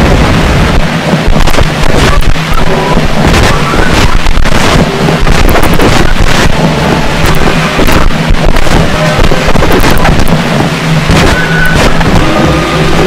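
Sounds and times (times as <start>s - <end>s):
sharp crackles and bursts: 0.0s - 13.0s
steady low drone: 0.0s - 13.0s
turntable rumbling noise: 0.0s - 13.0s.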